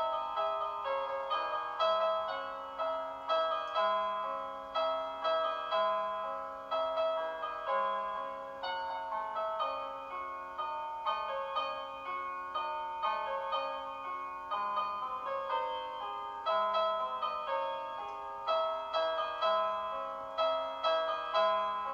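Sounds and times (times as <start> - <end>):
piano-like keyboard melody: 0.0 - 21.9.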